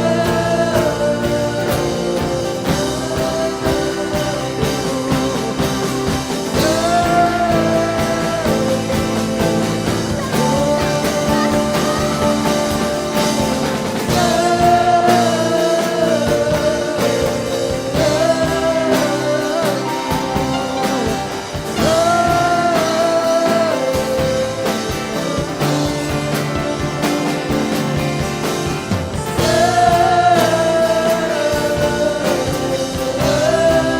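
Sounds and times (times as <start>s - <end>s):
person singing long notes: 0.0s - 33.9s
worship band playing: 0.0s - 33.9s.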